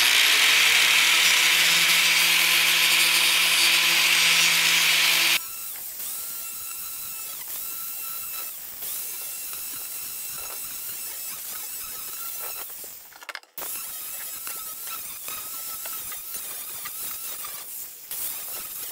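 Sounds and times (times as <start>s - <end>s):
angle grinder grinding wood: 0.0s - 12.8s, 13.6s - 18.9s.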